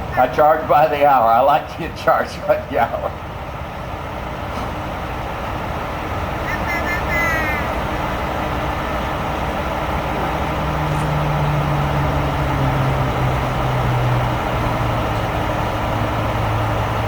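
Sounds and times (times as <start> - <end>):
tow truck winch machinery running: 0.0 - 17.0.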